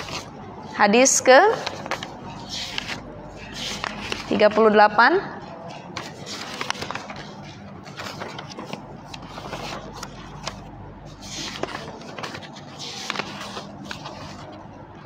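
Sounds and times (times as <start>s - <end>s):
book pages rustling: 0.0s - 0.3s, 1.5s - 4.5s, 5.5s - 14.6s
low steady hum: 0.0s - 15.0s.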